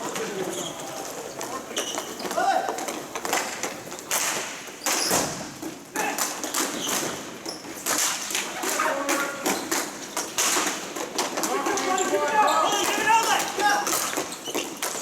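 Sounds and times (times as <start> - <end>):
hockey sticks and ball knocking: 1.4 - 15.0.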